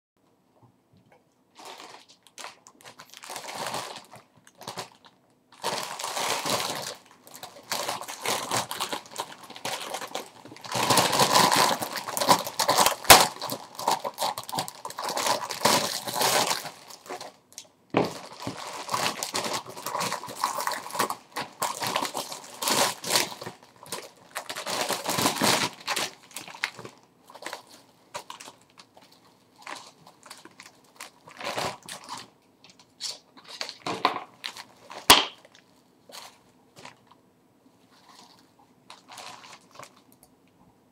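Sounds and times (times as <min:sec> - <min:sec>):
plastic packaging crinkling: 0:01.5 - 0:37.2, 0:37.9 - 0:40.3.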